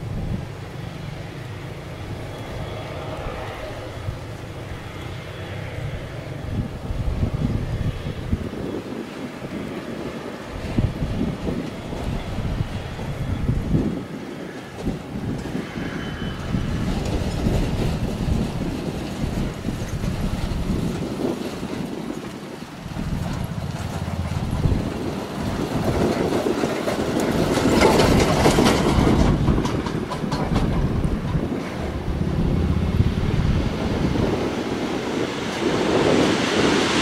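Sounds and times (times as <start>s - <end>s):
airliner engines rumbling: 0.0s - 37.0s.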